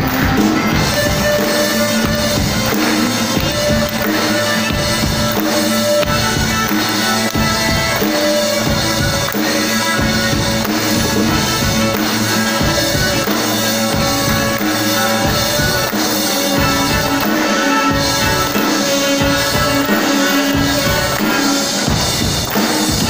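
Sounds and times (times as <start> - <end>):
drum kit beat: 0.0 - 23.0
string ensemble playing rock: 0.0 - 23.0.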